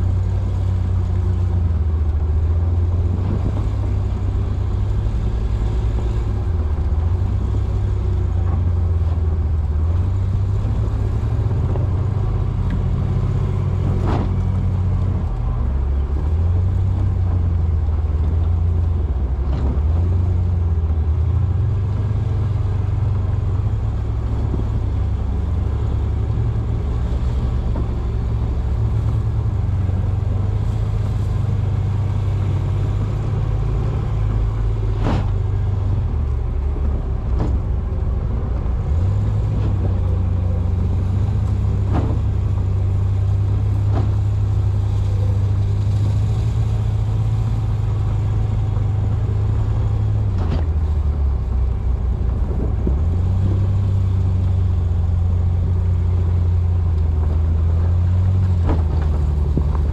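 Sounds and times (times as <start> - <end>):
engine rumble: 0.0 - 59.9.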